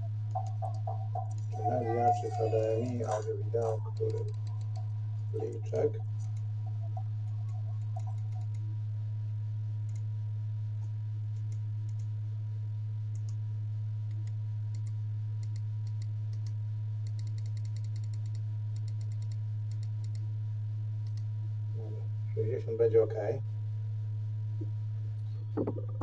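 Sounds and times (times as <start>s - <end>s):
projector humming: 0.0s - 17.3s, 18.6s - 26.0s.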